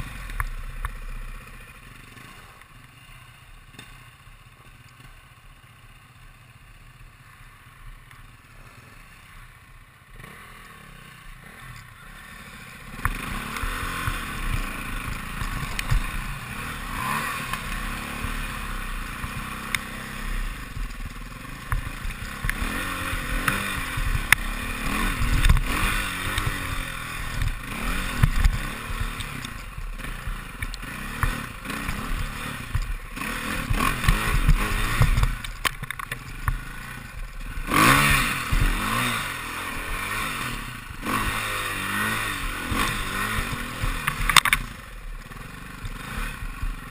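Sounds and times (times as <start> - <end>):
dirt bike engine revving: 0.0 - 7.5, 8.2 - 46.9.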